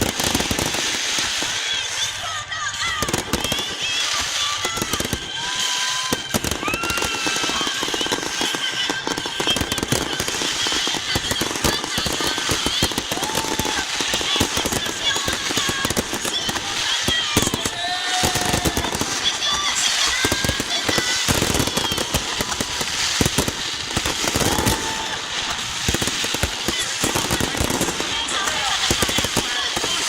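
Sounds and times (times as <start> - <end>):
crowd voices: 0.0 - 30.0
fireworks crackling and banging: 0.0 - 30.0.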